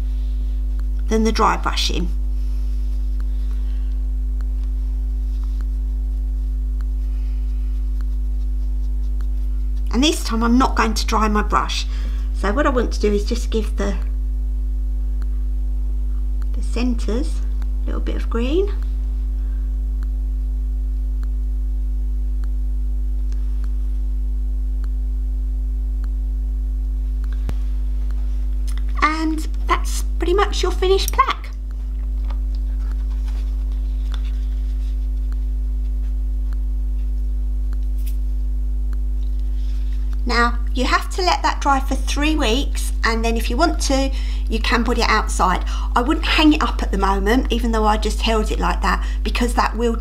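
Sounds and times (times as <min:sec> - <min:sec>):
low electrical hum with buzzing: 0:00.0 - 0:50.0.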